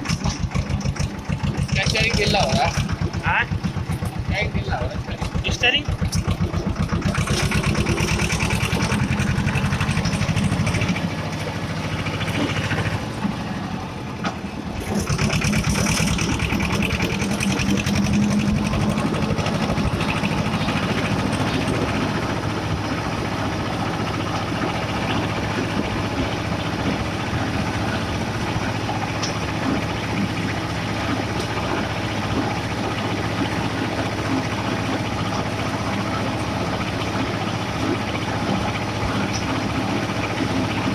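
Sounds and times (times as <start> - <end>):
tractor diesel engine droning: 0.0 - 40.9.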